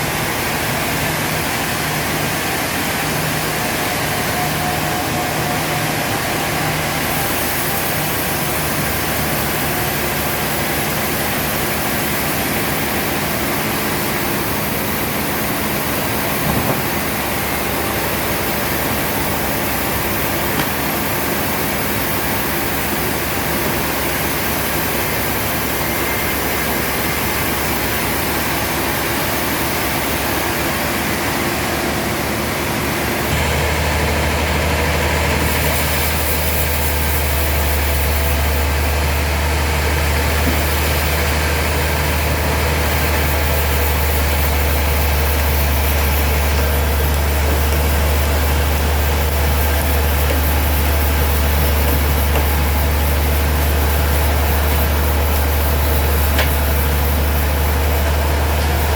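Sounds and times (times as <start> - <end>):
deep loud machine hum: 0.0 - 58.9
sawmill machinery running: 0.0 - 58.9.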